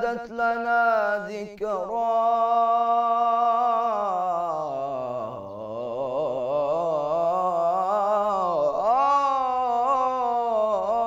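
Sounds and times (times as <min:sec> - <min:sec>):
man singing a cappella: 0:00.0 - 0:11.0.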